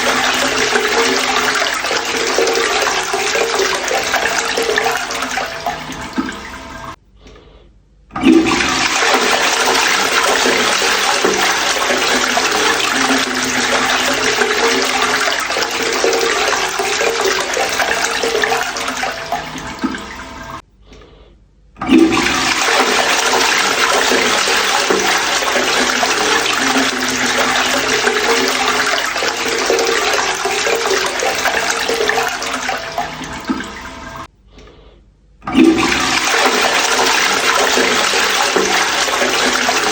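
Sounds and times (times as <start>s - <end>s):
toilet flushing: 0.0s - 7.0s, 8.1s - 20.6s, 21.8s - 34.3s, 35.4s - 39.9s.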